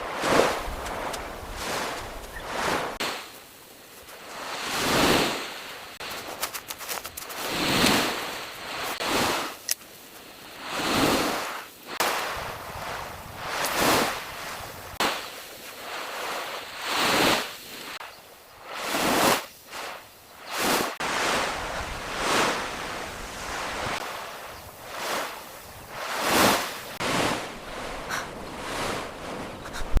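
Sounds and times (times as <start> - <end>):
ocean waves washing onto beach: 0.0 - 30.0.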